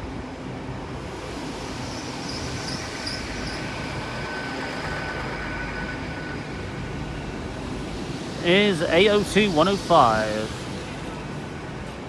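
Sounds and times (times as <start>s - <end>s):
train rumbling: 0.0s - 12.0s
thin high squeal: 1.4s - 11.6s.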